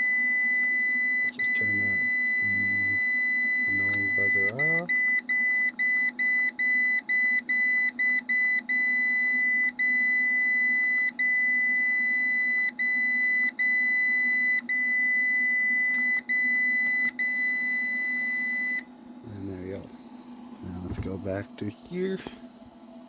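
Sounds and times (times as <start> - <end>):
high-pitched alarm buzzer: 0.0 - 18.8.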